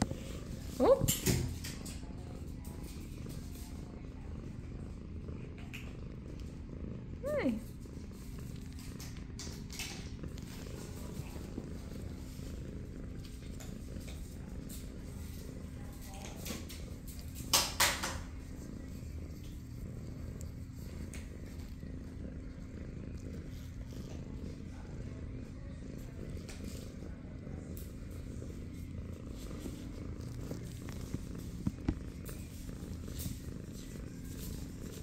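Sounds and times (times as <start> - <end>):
kitten purring: 0.0 - 35.0.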